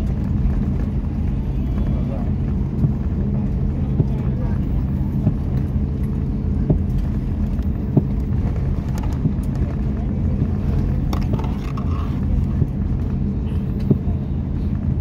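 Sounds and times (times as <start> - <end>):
aircraft cabin engine hum: 0.0 - 15.0.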